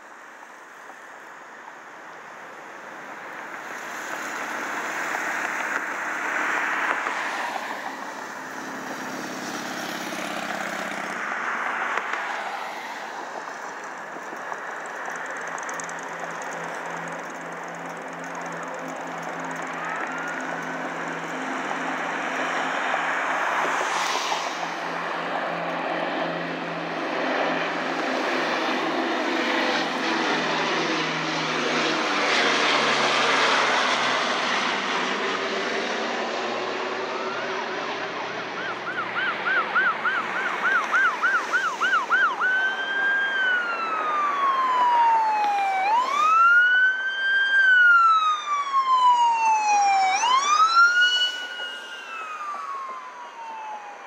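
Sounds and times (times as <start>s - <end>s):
propeller aircraft engines droning: 0.0s - 54.0s
emergency vehicle siren wailing: 2.3s - 54.0s.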